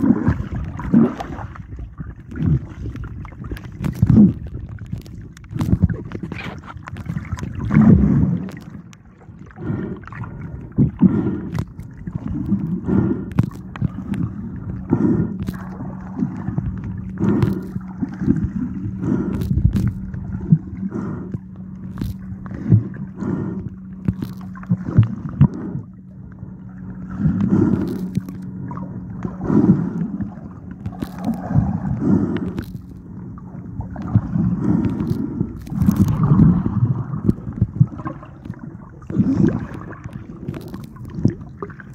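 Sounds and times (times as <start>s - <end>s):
low hum: 0.0s - 41.9s
underwater sloshing and gurgling: 0.0s - 41.9s.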